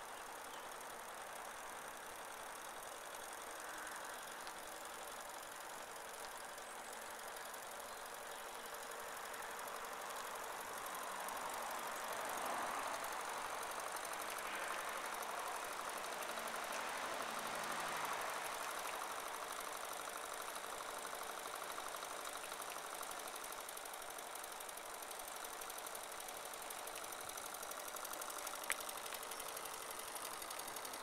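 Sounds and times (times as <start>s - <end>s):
model steam engine beating: 0.0s - 31.0s.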